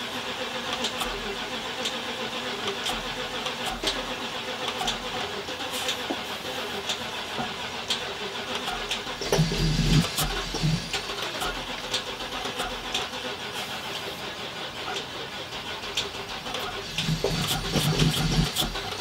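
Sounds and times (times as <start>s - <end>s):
engine cranking without starting: 0.0s - 19.0s.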